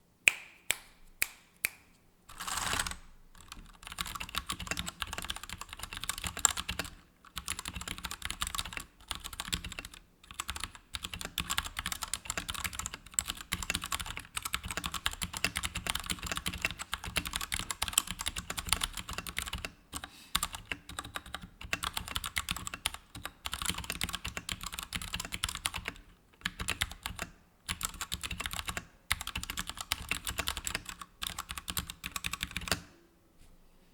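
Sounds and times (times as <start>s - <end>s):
mechanical keyboard typing: 2.3s - 32.9s.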